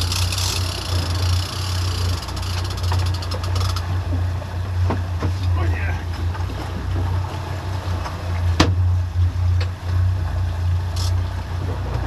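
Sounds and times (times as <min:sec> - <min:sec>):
outboard boat engines droning: 0:00.0 - 0:12.0.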